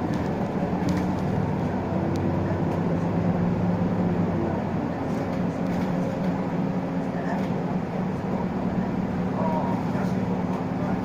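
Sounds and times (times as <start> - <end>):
bus engine hum: 0.0 - 11.0
road noise: 0.0 - 11.0.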